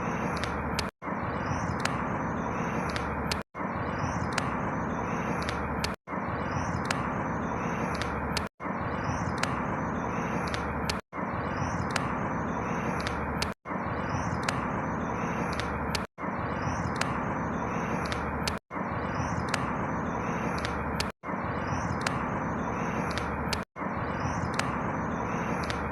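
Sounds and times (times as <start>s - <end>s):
faint bird chirps: 0.0s - 25.9s.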